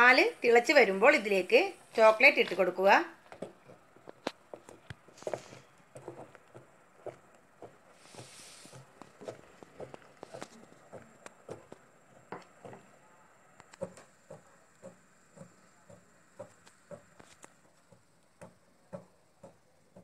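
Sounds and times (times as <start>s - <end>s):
spatula tapping and scraping pot: 2.4s - 13.0s, 13.6s - 20.0s.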